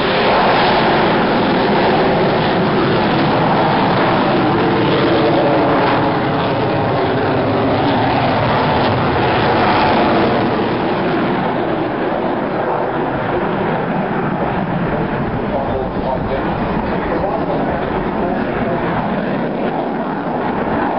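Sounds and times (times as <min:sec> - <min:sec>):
jet aircraft flying over: 0:00.0 - 0:20.9.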